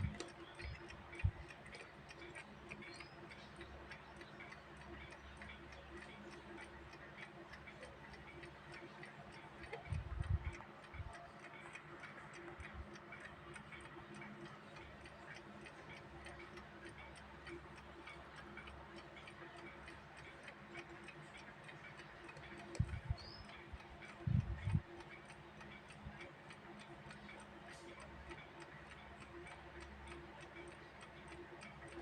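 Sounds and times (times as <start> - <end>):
alarm clock ticking: 0.0 - 32.0.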